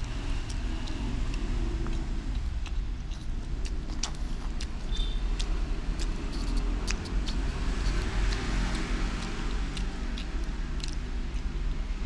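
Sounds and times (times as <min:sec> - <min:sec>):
road traffic rumble: 0:00.0 - 0:12.0
vehicle passing by: 0:00.0 - 0:12.0.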